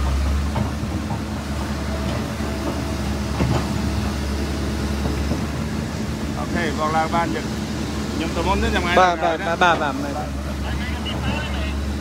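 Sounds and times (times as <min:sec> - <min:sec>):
engine running with low drone: 0:00.0 - 0:12.0.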